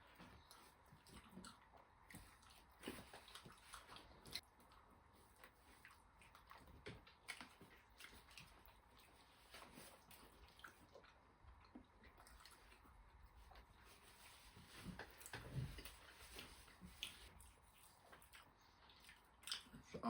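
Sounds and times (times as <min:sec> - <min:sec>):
person chewing and crunching food: 0:00.0 - 0:20.0.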